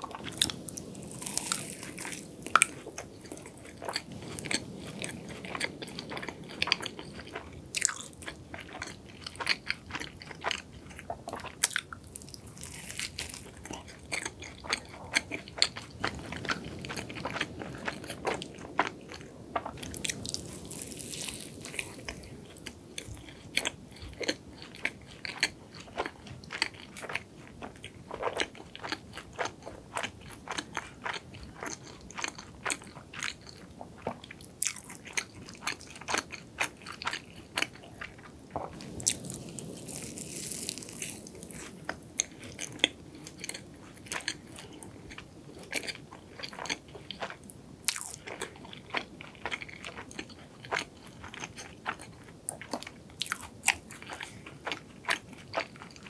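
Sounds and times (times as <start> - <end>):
chewing crunchy pastry: 0.0 - 56.0.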